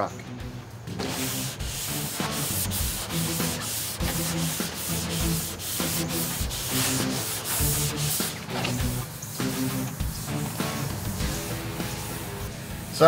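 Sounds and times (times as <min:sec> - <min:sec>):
sanding block rasping on metal: 0:01.0 - 0:11.6.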